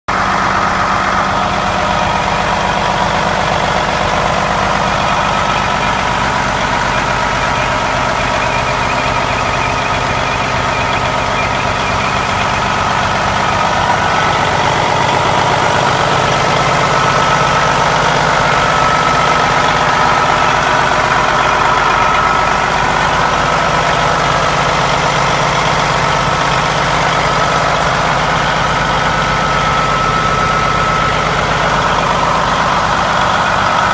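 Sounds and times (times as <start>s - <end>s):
truck diesel engine running: 0.1s - 33.9s.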